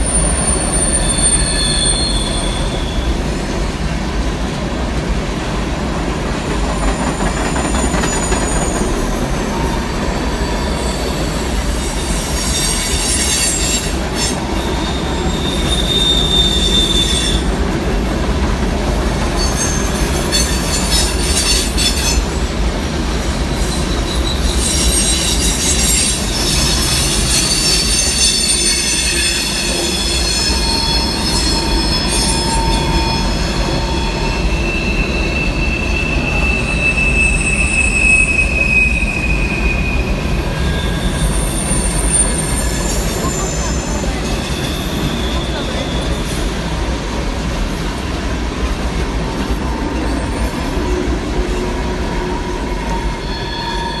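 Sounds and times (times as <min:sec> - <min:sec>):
train wheels squealing: 0:00.0 - 0:04.0, 0:06.5 - 0:18.4, 0:19.0 - 0:46.9, 0:47.8 - 0:54.0
freight train rumbling past: 0:00.0 - 0:54.0.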